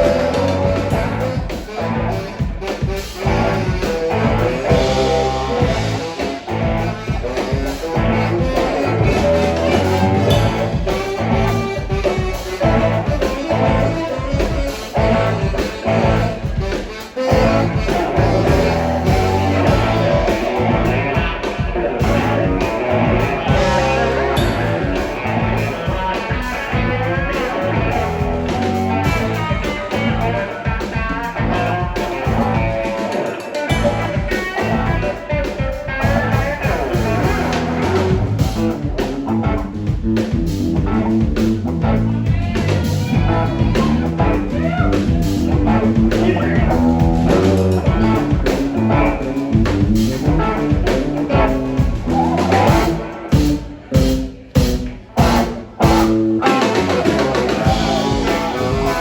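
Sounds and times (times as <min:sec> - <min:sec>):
guitar lead with bending notes: 0:00.0 - 0:59.0
live blues-rock band: 0:00.0 - 0:59.0.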